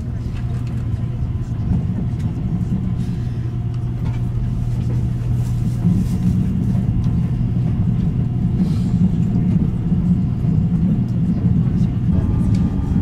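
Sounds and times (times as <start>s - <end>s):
train cabin rumble: 0.0s - 13.0s.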